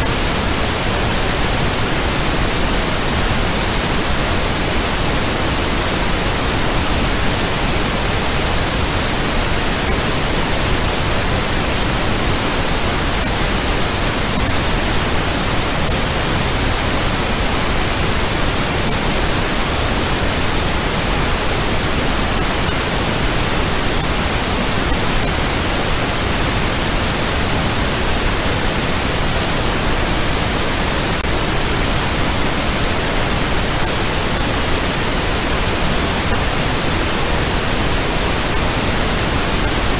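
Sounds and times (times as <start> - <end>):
steady noise hiss: 0.0 - 39.9.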